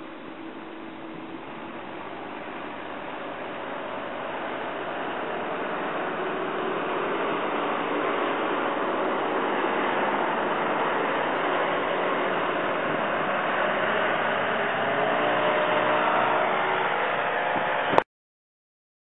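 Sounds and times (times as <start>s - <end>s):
hovercraft engine and fan running: 0.0s - 18.0s.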